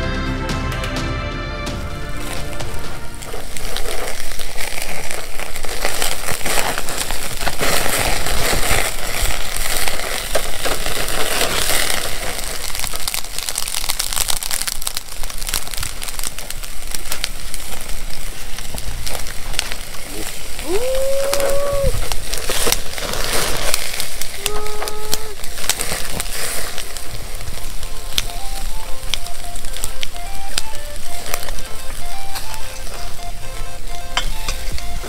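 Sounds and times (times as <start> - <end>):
meat sizzling on a grill: 2.1 - 35.0.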